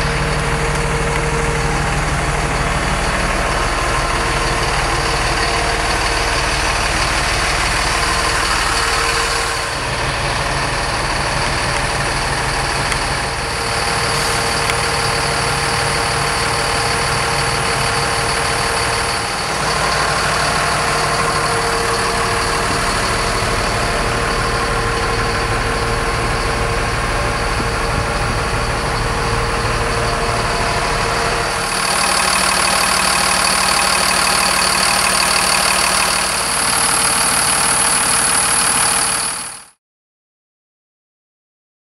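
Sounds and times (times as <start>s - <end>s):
diesel truck engine idling: 0.0s - 39.8s.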